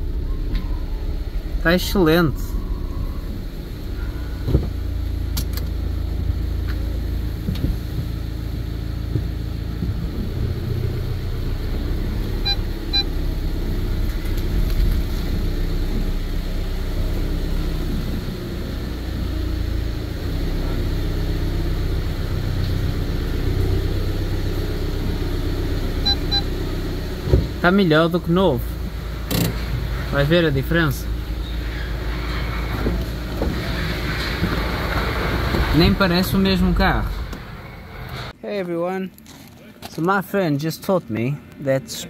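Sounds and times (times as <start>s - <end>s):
van engine and road rumble: 0.0s - 42.0s.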